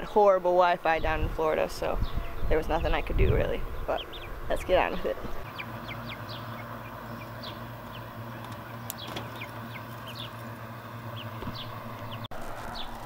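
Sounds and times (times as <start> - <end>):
steady low hum: 0.0 - 13.0
chicks peeping: 2.0 - 13.0.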